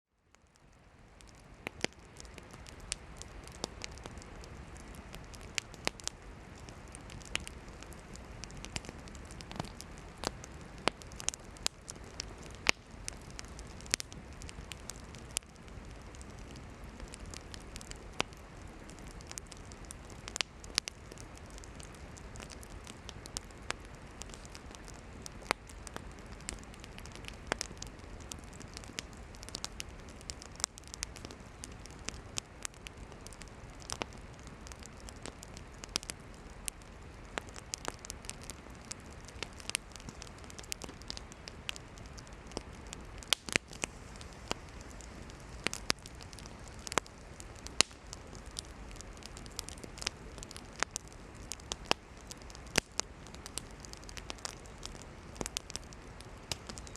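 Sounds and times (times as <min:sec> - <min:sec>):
campfire crackling and popping: 0:00.2 - 0:56.9.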